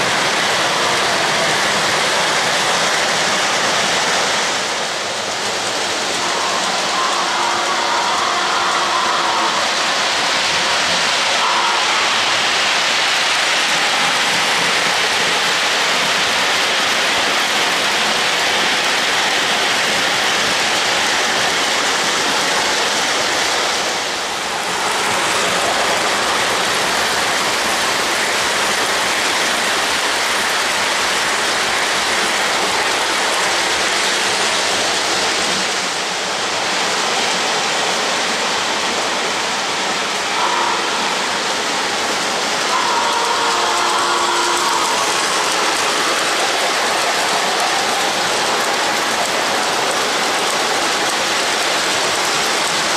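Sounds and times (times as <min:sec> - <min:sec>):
model trains rushing on track: 0:00.0 - 0:52.9.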